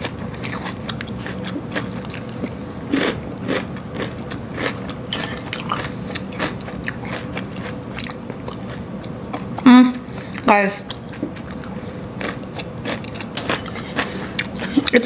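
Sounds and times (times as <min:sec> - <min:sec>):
person chewing crunchy salad: 0:00.0 - 0:15.0.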